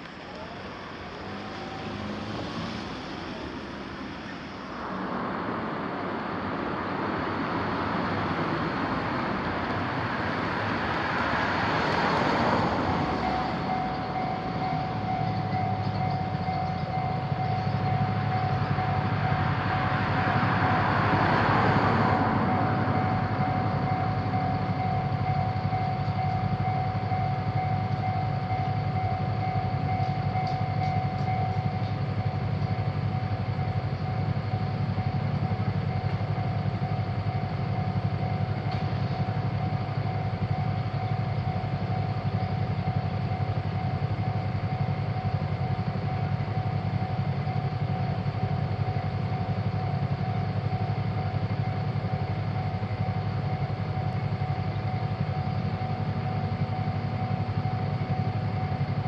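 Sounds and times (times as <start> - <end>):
train rumbling: 0.0 - 59.0
steady high tone: 9.6 - 59.0.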